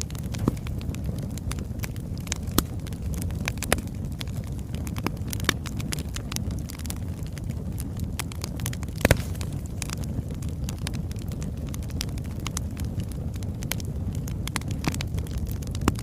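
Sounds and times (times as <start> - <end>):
burning logs crackling and popping: 0.0 - 16.0
low rush of flames: 0.0 - 16.0.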